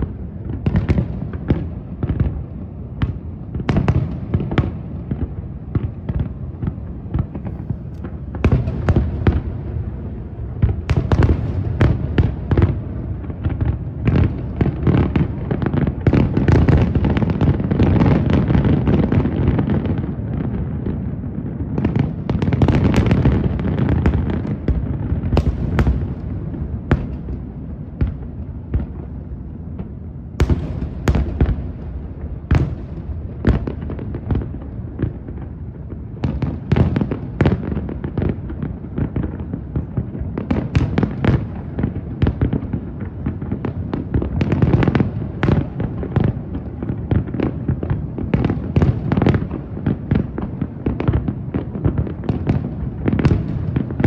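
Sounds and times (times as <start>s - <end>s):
fireworks bursts and bangs: 0.0s - 54.0s
fireworks crackling: 0.0s - 54.0s.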